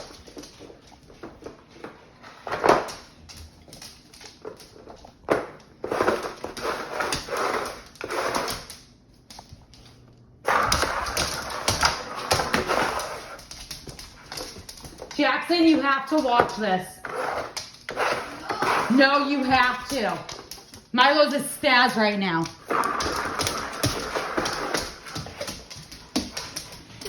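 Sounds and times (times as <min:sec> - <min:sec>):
dog scuffling with toy: 0:00.0 - 0:08.8, 0:10.5 - 0:15.7, 0:16.4 - 0:20.9, 0:22.4 - 0:27.0.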